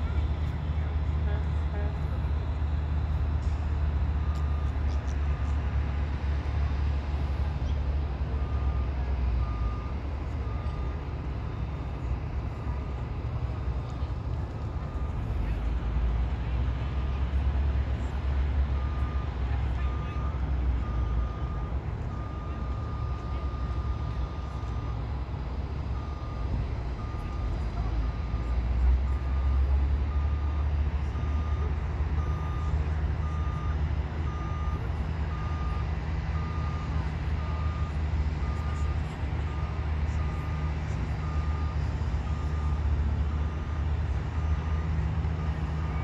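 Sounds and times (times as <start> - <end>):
reversing alarm beeping: 3.0 - 15.8, 16.8 - 46.0.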